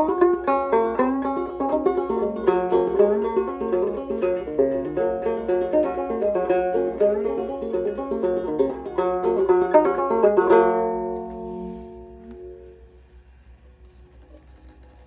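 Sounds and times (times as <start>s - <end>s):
banjo picking: 0.0s - 12.8s.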